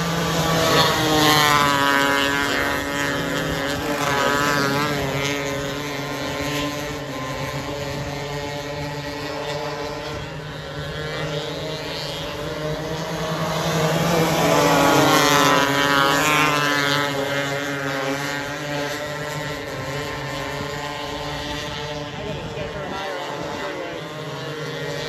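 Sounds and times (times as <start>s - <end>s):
race car engine passing by: 0.0s - 25.0s.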